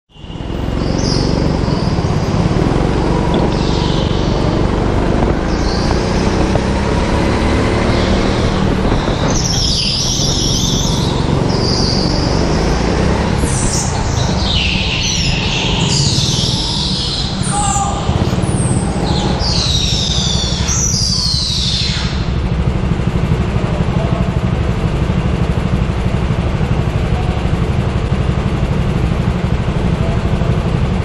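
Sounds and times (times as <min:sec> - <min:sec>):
go-kart engine running hard: 0:00.1 - 0:31.0.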